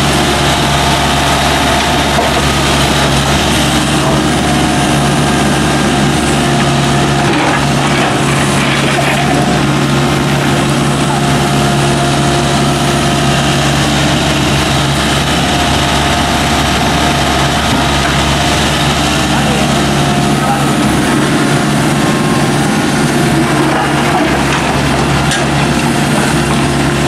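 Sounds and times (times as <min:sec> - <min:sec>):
excavator diesel engine running: 0:00.0 - 0:27.0
excavator digging soil: 0:00.0 - 0:27.0.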